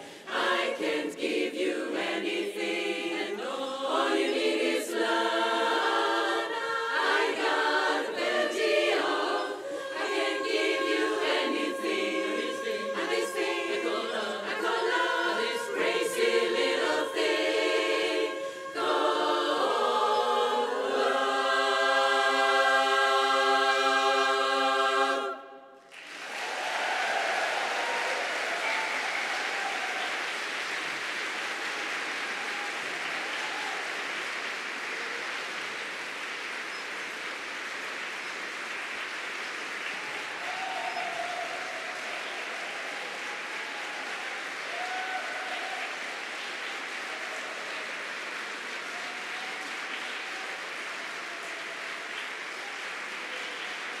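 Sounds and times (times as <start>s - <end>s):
audience applauding: 0.0s - 23.9s, 25.8s - 54.0s.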